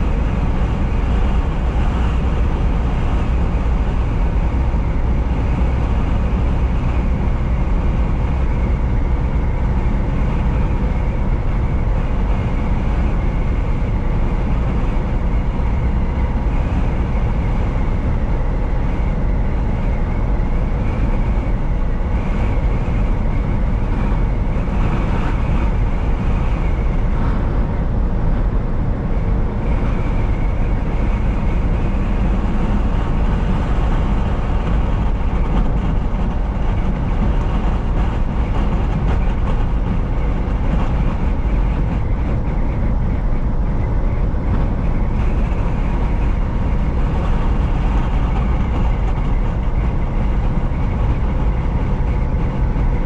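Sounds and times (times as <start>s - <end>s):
truck engine drone: 0.0s - 53.0s
tyre and road noise: 0.0s - 53.0s.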